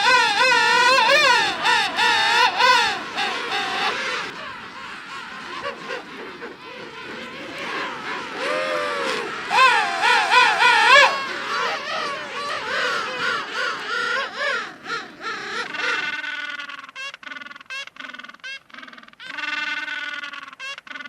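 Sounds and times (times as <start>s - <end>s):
ducks quacking: 0.0s - 21.0s
wavering animal calls: 0.0s - 21.0s.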